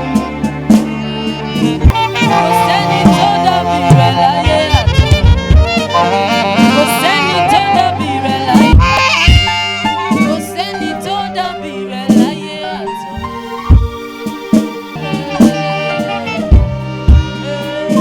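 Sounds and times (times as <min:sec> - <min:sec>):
live band playing: 0:00.0 - 0:18.0
saxophone melody: 0:00.0 - 0:18.0.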